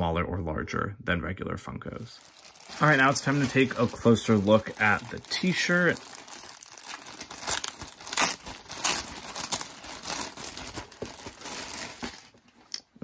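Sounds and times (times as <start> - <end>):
plastic bag crinkling: 2.1 - 12.8.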